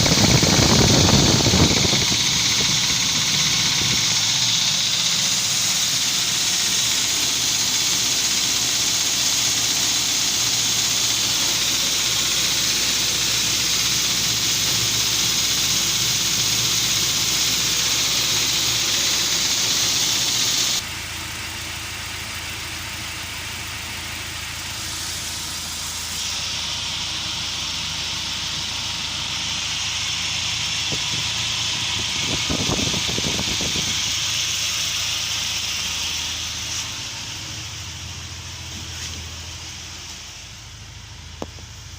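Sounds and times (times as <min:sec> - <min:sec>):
engine idling with knock: 0:00.0 - 0:41.9.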